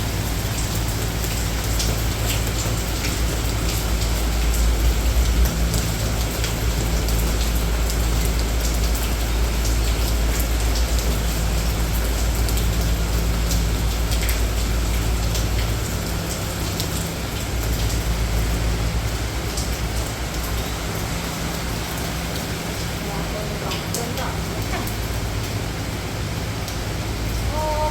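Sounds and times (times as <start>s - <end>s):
low steady rumble: 0.0s - 27.9s
rain drops ticking on surfaces: 0.0s - 27.9s.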